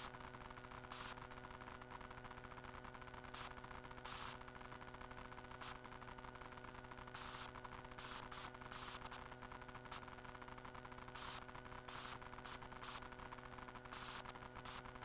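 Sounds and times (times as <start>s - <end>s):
static bursts: 0.0s - 4.8s, 5.5s - 6.1s, 7.0s - 15.0s
faint hiss and electrical hum: 0.0s - 15.0s.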